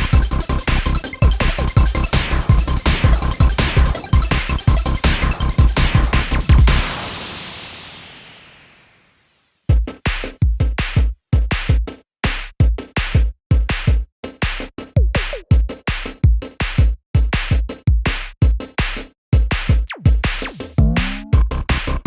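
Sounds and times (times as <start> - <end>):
electronic music with drum-machine beat: 0.0 - 8.3, 9.7 - 22.0.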